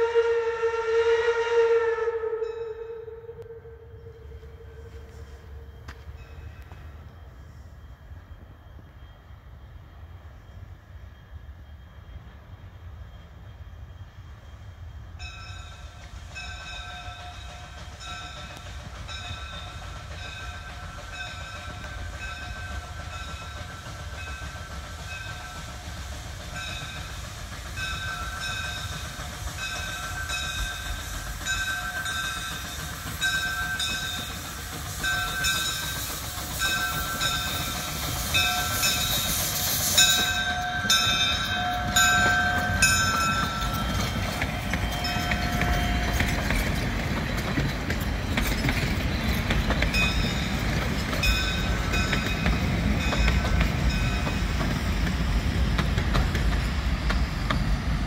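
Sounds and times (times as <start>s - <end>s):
train rumbling and clattering past: 0.0s - 58.0s
steam locomotive bell ringing: 1.8s - 58.0s.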